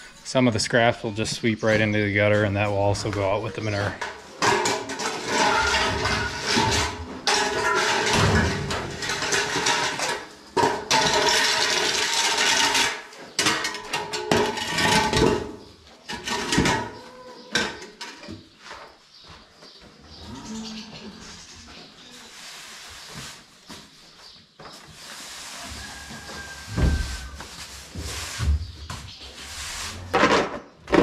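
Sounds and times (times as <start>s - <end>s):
scraping on concrete floor: 1.4s - 31.0s.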